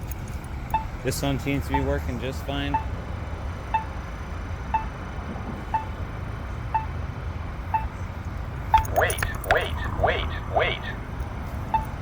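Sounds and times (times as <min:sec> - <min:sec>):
low traffic hum: 0:00.0 - 0:12.0
pedestrian signal ticking: 0:00.0 - 0:12.0.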